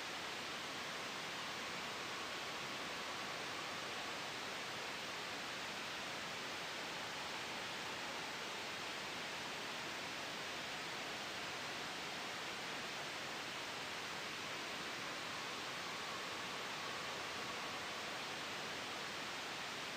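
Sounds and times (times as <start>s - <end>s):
white noise hiss: 0.0s - 19.9s.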